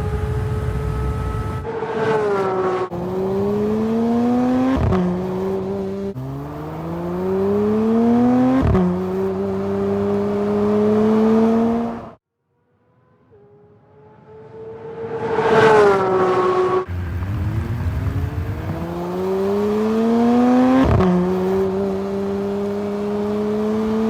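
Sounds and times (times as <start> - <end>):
sports car accelerating hard: 0.0 - 12.2, 13.0 - 24.0.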